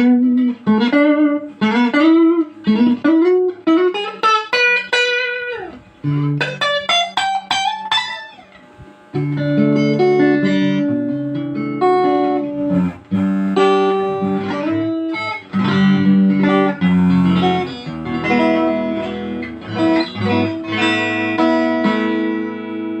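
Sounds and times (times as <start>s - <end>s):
clean electric guitar: 0.0s - 23.0s.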